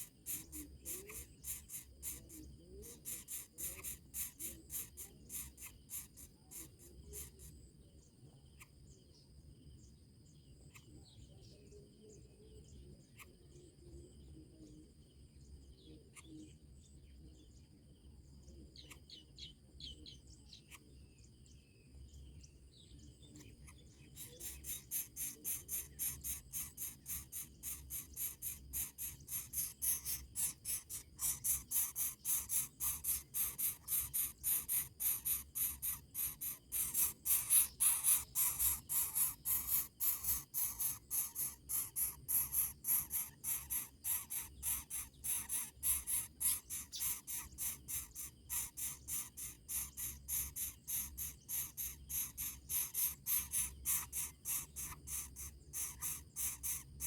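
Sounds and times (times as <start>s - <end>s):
faint low hum: 0.0s - 57.0s
insects chirping: 0.0s - 57.0s.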